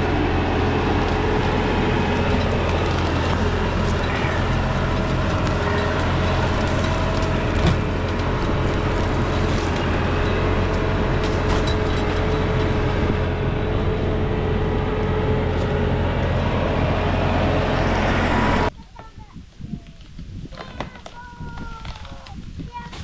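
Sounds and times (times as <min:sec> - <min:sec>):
tractor diesel engine running: 0:00.0 - 0:18.8.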